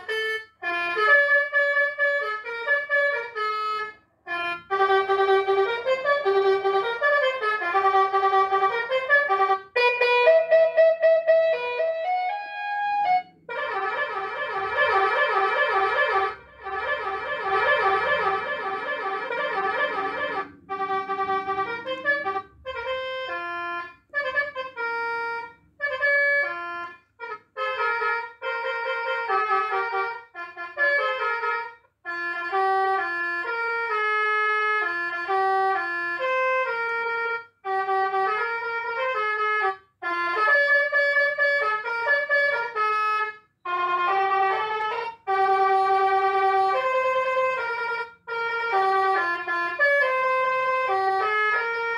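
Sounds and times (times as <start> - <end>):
electronic horn playing tunes: 0.0 - 51.9.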